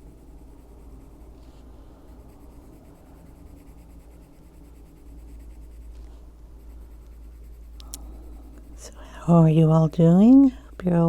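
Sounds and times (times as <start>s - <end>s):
faint low hum: 0.0s - 11.0s
pencil scratching on paper: 0.2s - 11.0s.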